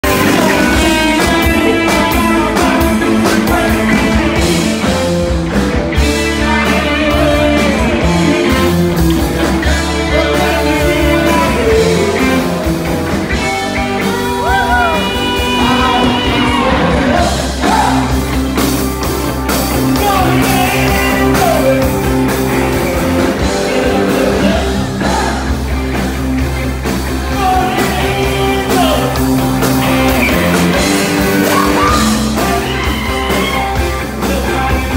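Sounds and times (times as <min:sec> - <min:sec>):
drum kit: 0:00.0 - 0:34.9
electric guitar: 0:00.0 - 0:34.9
lead singer: 0:00.0 - 0:34.9.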